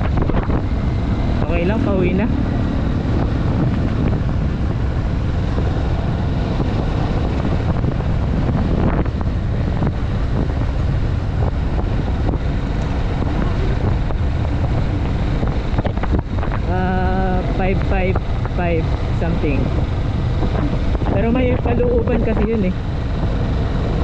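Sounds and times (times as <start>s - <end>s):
motorcycle engine running steadily: 0.0s - 24.0s
wind noise on microphone: 0.0s - 24.0s.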